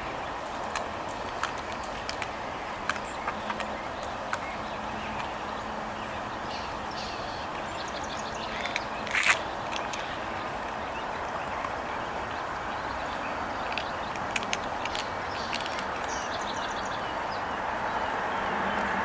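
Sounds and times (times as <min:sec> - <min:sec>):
outdoor traffic noise: 0:00.0 - 0:19.0
vehicle approaching: 0:00.7 - 0:19.0.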